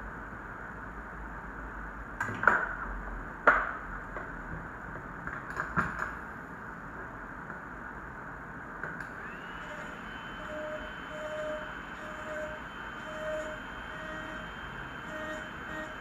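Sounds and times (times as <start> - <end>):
steady fan-like hiss: 0.0 - 16.0.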